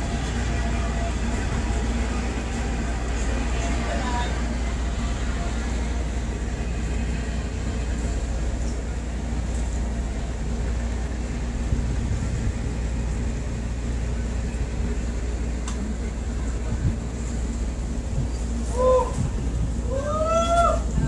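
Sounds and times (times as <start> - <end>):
constant hum: 0.0 - 21.0
diesel engine rumble: 0.0 - 21.0.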